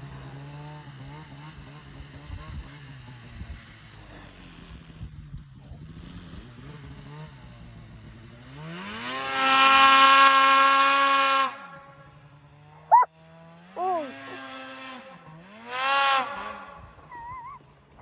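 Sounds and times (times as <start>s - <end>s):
snowmobile engine revving: 0.0s - 4.9s, 5.8s - 18.0s.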